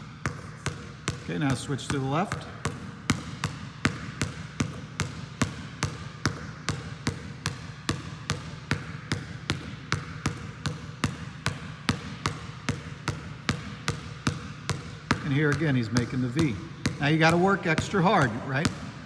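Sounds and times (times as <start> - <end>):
basketball bouncing on gym floor: 0.0 - 19.0.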